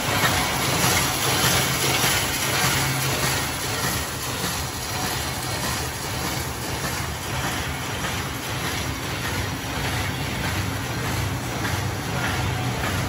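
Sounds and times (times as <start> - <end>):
paper bag machine clattering: 0.0 - 13.0.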